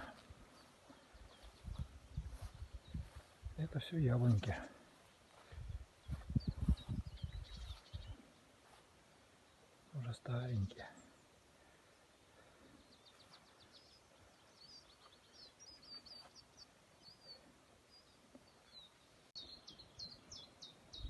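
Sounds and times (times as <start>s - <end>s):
quiet outdoor hiss: 0.0s - 21.0s
songbirds chirping and trilling: 0.0s - 21.0s.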